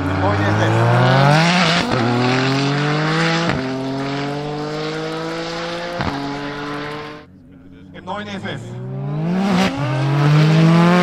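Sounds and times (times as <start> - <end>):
sports car engines accelerating: 0.0 - 11.0.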